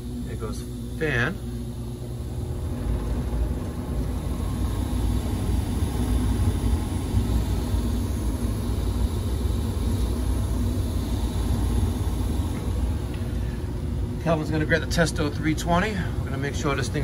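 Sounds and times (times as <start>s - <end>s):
blower fan humming: 0.0s - 17.0s
gas furnace running: 0.0s - 17.0s.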